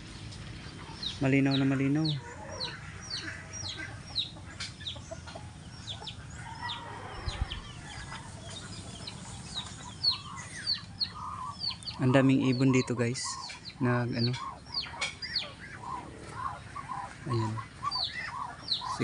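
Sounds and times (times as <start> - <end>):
birds chirping: 0.0 - 19.0
chickens clucking: 0.0 - 19.0.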